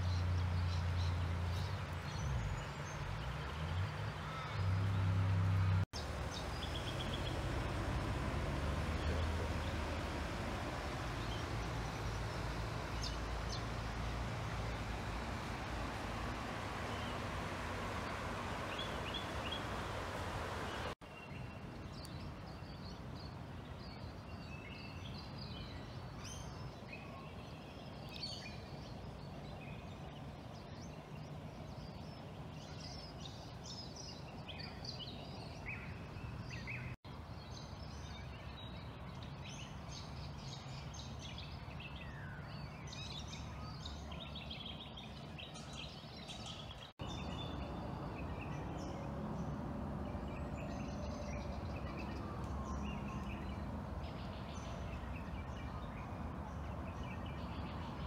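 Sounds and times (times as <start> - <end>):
low rushing background noise: 0.0 - 58.0.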